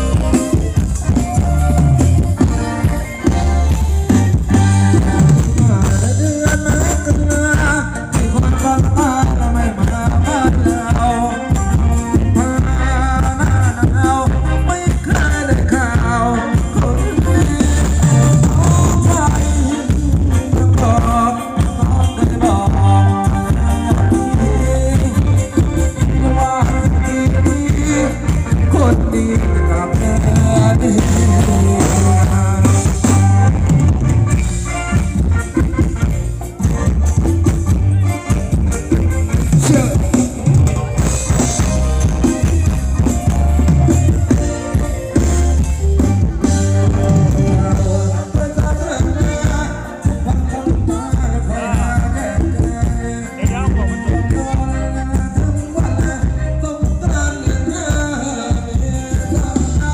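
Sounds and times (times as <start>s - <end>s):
heavy bass: 0.0s - 59.9s
live band dance music: 0.0s - 59.9s
steady drum beat: 0.0s - 59.9s.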